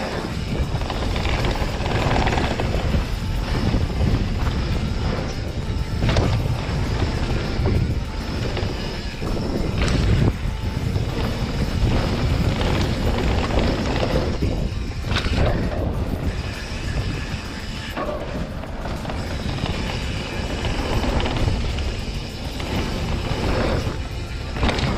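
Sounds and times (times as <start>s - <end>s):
tyres on loose dirt: 0.0s - 24.9s
wind buffeting microphone: 0.0s - 24.9s.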